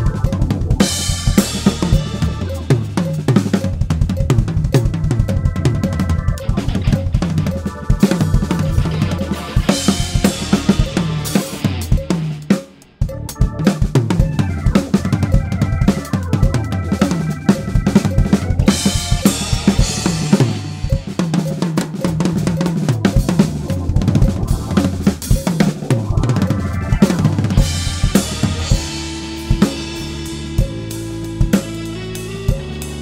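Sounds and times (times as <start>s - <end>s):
backing track bass and chords: 0.0s - 33.0s
drum kit solo: 0.0s - 33.0s.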